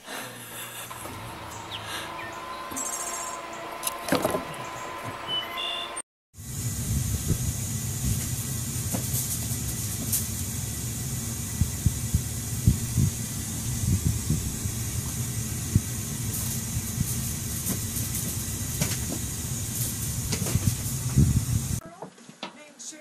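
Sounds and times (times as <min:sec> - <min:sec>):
household appliance rumbling: 0:00.0 - 0:05.4, 0:06.4 - 0:21.8.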